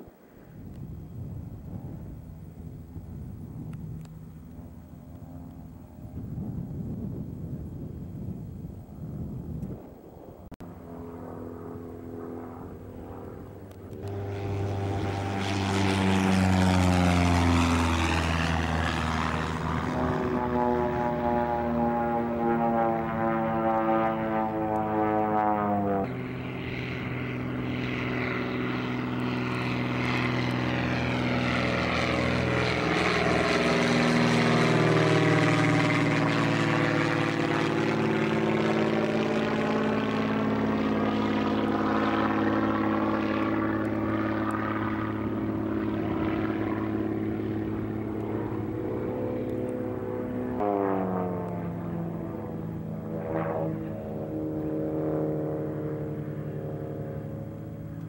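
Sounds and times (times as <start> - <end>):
propeller plane engine: 0.0 - 58.0.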